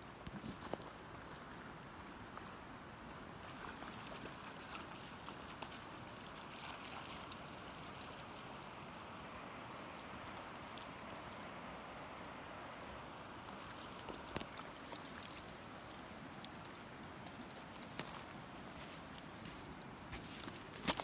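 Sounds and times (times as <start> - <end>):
river rushing over gravel: 0.9 - 21.0.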